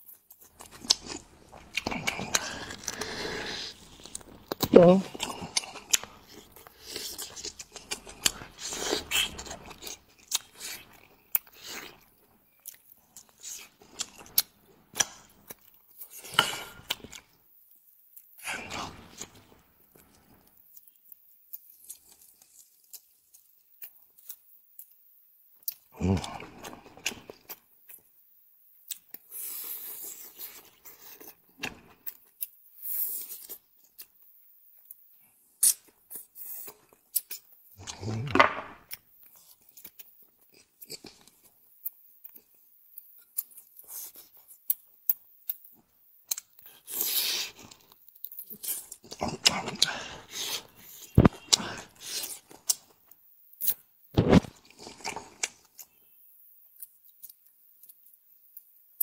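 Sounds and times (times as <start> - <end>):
person chewing food: 0.0 - 17.4, 18.1 - 25.0, 28.8 - 59.0.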